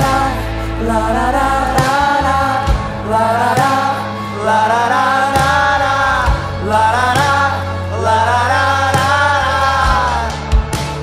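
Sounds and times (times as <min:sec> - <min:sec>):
electric guitar: 0:00.0 - 0:11.0
voices singing long notes: 0:00.0 - 0:11.0.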